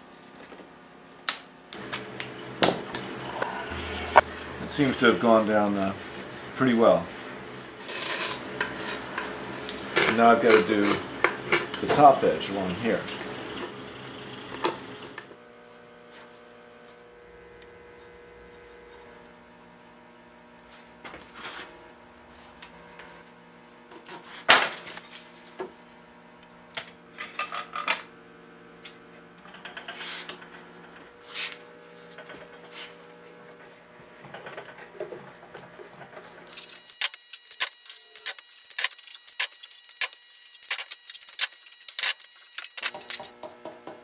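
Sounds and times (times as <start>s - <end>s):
steady electrical hum: 0.0s - 44.0s.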